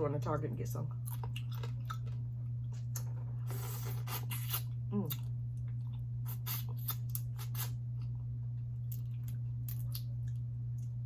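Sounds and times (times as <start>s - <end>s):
steady low hum: 0.0s - 11.0s
close eating sounds: 0.9s - 11.0s.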